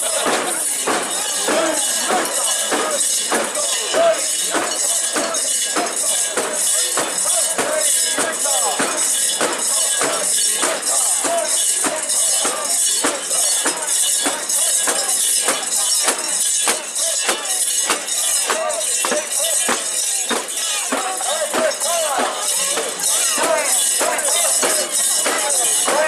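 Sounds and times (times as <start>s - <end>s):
many voices chanting: 0.0s - 26.0s
rhythmic metallic jangling: 0.0s - 26.0s.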